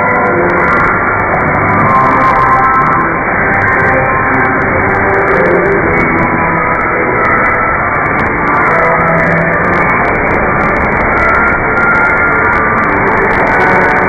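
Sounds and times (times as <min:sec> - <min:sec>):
muffled radio music: 0:00.0 - 0:14.0
radio static hiss: 0:00.0 - 0:14.0.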